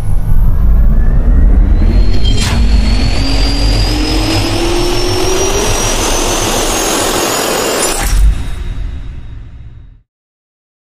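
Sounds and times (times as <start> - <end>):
jet turbine whine rising: 0.0 - 9.9.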